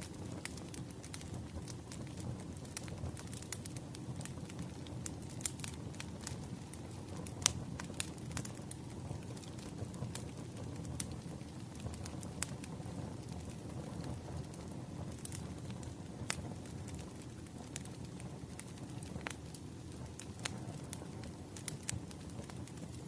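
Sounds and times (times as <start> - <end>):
fire crackling and popping: 0.0 - 23.0
low rumble of burning: 0.0 - 23.0.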